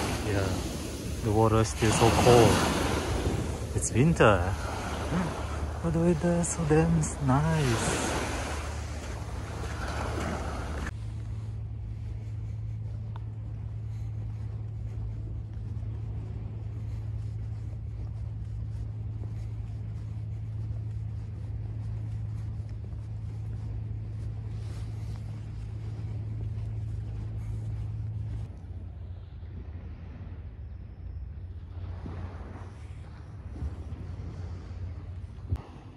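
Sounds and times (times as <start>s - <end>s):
small waves washing on shore: 0.0s - 30.4s, 31.5s - 35.9s
low mechanical hum: 0.0s - 35.9s.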